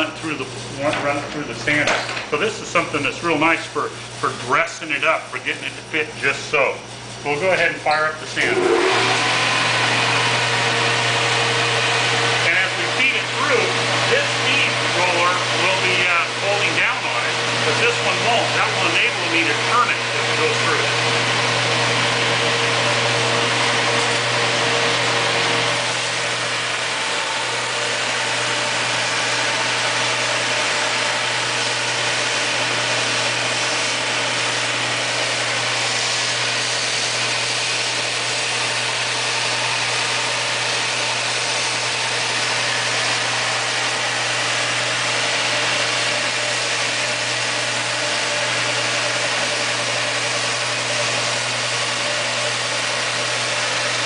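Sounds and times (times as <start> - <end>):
sander humming and hissing: 8.4 - 54.0.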